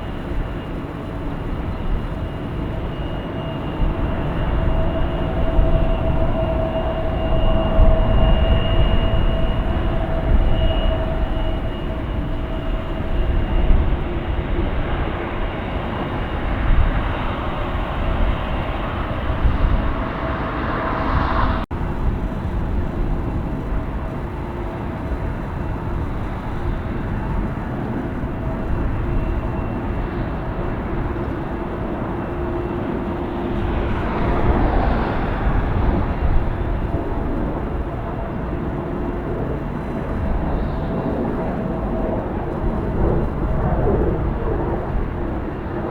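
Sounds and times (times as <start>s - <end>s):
jet engines rumbling and whining: 0.0s - 45.9s.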